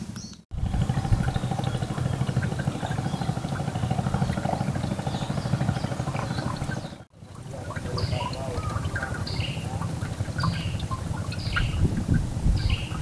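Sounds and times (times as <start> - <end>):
small boat engine running: 0.5 - 13.0.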